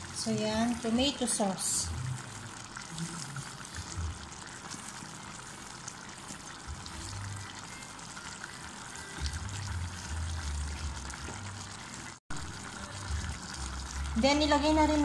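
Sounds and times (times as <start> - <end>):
stew bubbling in a pot: 0.0 - 15.0.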